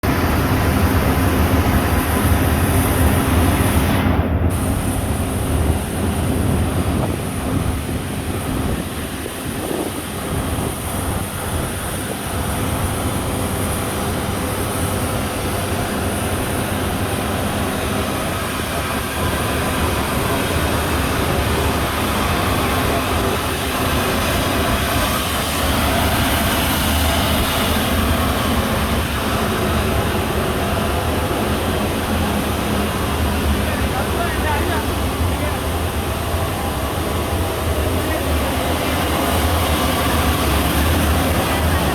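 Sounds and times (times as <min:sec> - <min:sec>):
aircraft cabin rumble: 0:00.0 - 0:41.9.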